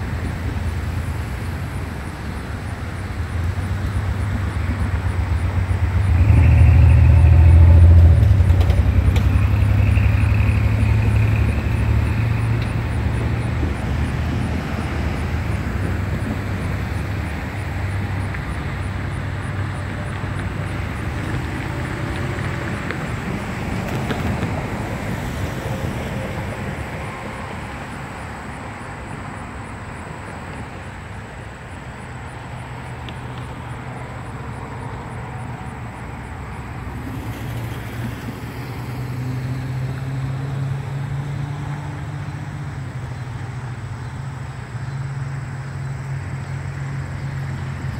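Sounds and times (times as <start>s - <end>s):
freight train rolling over rails: 0.0s - 41.8s
road traffic: 0.0s - 47.9s.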